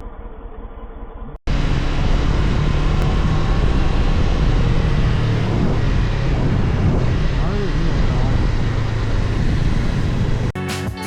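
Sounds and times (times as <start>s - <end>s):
motorcycle engine drone: 0.0s - 10.6s
wind rushing over microphone: 1.5s - 10.5s.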